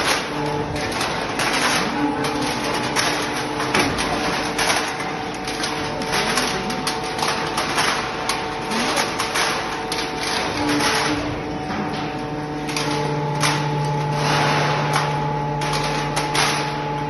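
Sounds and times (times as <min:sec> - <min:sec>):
can baler humming: 0:00.0 - 0:17.0.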